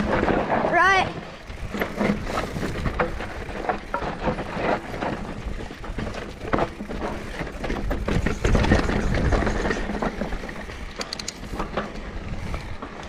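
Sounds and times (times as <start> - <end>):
bike knocks and rattles: 0.0 - 13.0
bike tyres rolling on dirt: 0.0 - 13.0.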